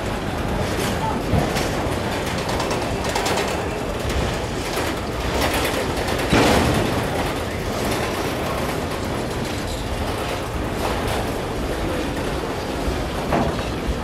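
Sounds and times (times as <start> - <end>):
freight train wheels rumbling: 0.0 - 14.0
train knocks: 0.0 - 14.0.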